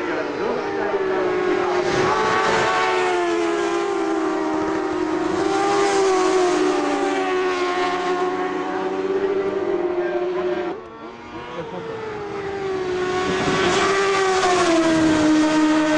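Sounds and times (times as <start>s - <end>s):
racing motorcycles passing: 0.0s - 15.9s.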